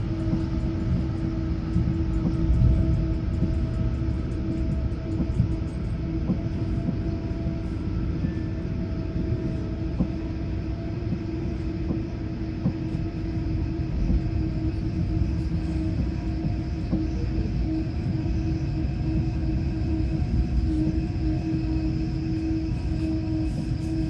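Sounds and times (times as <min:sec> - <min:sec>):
constant hum: 0:00.0 - 0:24.0
train rumbling on rails: 0:00.0 - 0:24.0.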